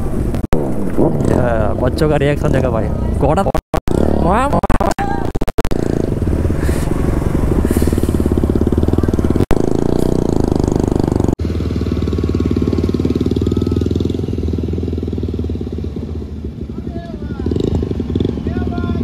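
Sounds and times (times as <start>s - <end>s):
motorcycle engine running: 3.8s - 19.0s.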